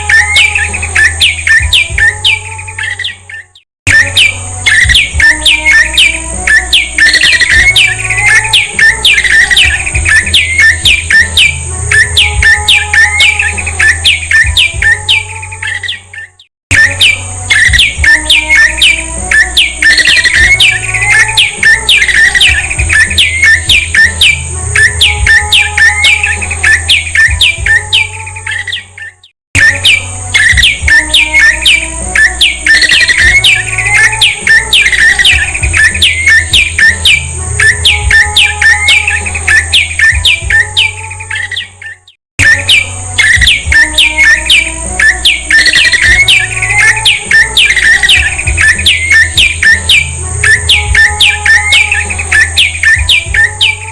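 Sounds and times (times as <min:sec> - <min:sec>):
bird chipping song: 0:00.0 - 0:53.9.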